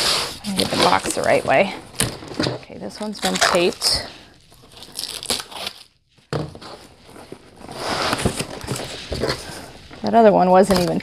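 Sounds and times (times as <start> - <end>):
cardboard flaps scraping and rustling: 0.0 - 4.1, 4.7 - 10.1.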